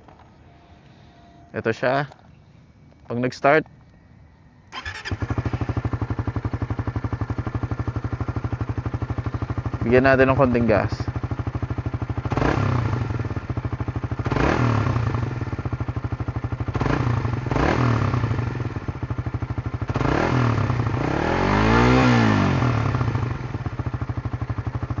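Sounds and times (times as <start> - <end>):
motorcycle engine idling and revving: 4.7 - 25.0.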